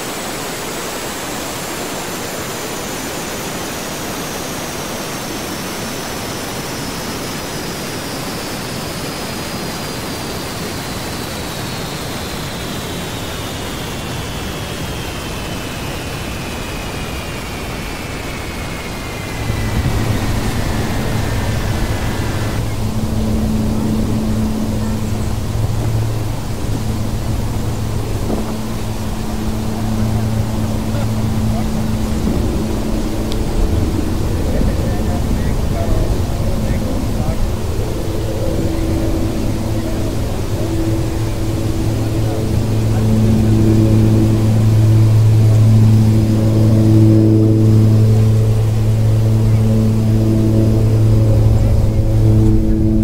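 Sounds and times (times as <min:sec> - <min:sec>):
aircraft whine over loudspeakers: 0:00.0 - 0:53.0
low steady drone: 0:00.0 - 0:53.0.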